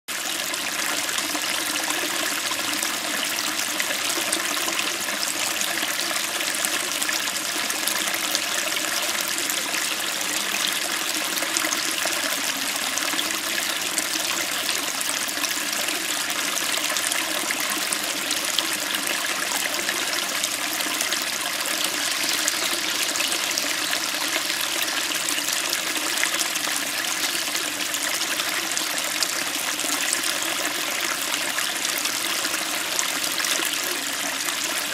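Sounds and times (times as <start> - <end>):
stream babbling over rocks: 0.2 - 34.9.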